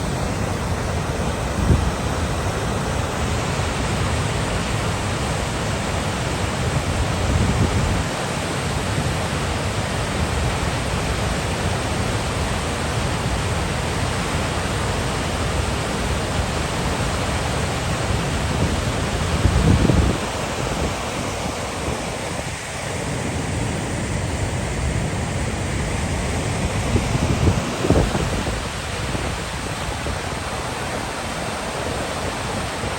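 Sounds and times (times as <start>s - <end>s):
waterfall rushing: 0.0s - 32.9s.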